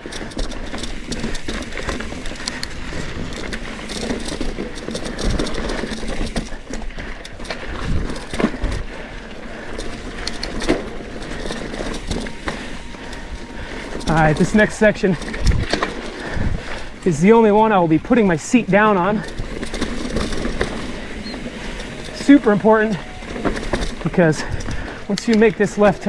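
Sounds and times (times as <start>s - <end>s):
bike knocks clicks and rattles: 0.0s - 26.0s
bike tyres crunching over rock: 0.0s - 26.0s.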